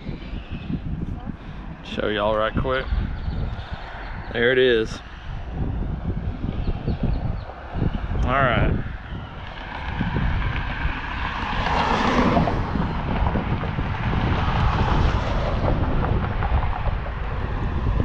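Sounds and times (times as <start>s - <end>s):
vehicles passing: 0.0s - 18.0s
wind buffeting microphone: 0.0s - 18.0s.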